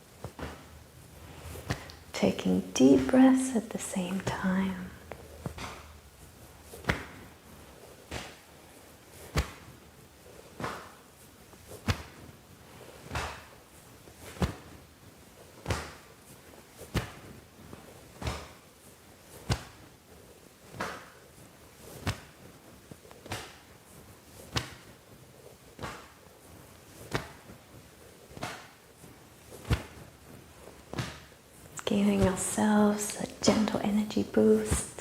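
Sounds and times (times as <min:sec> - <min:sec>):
hands patting the body: 0:00.0 - 0:02.2, 0:05.0 - 0:35.0.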